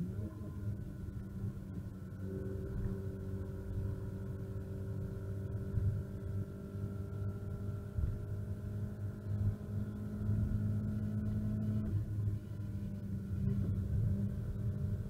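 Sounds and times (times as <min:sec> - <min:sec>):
car engine running: 0:00.0 - 0:15.0
road and tyre noise: 0:00.0 - 0:15.0.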